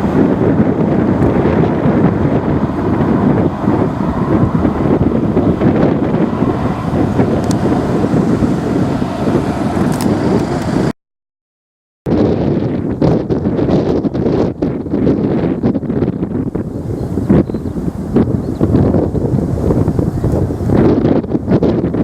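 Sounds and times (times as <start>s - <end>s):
wind buffeting microphone: 0.0s - 10.9s, 12.1s - 22.0s.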